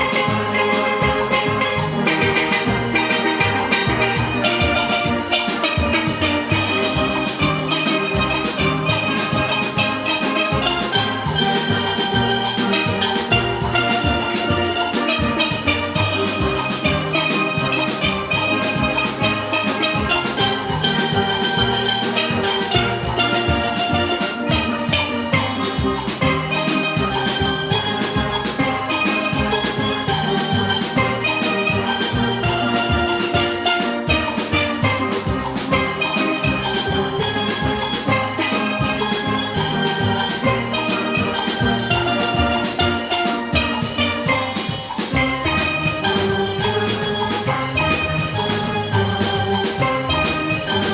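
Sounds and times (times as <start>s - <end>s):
drum kit rhythm: 0.0s - 50.9s
steelpans playing melody: 0.0s - 50.9s.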